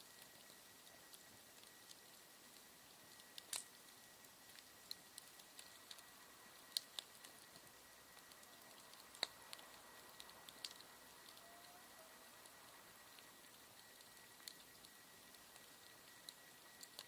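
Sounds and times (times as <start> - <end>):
campfire wood crackling: 0.0 - 17.0
low hiss: 0.0 - 17.0.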